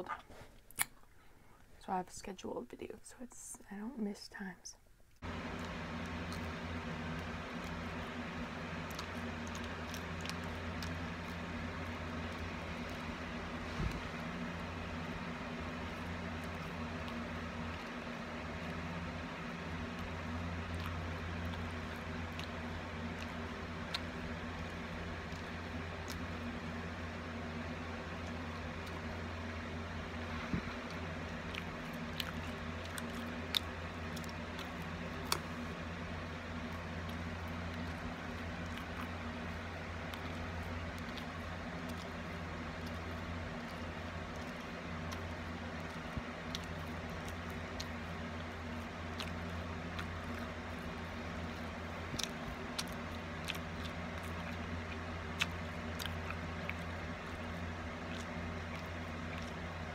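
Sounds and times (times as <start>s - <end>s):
steady low hum: 0.0s - 59.9s
mouth clicks and crunches: 5.2s - 59.9s
person chewing bread: 5.2s - 59.9s.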